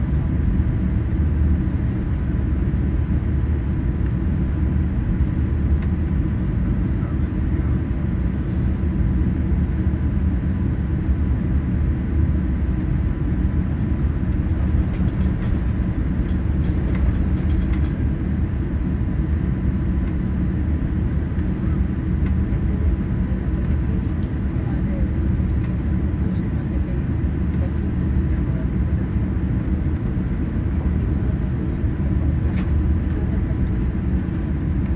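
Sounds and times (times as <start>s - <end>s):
aircraft cabin rumble: 0.0s - 34.9s.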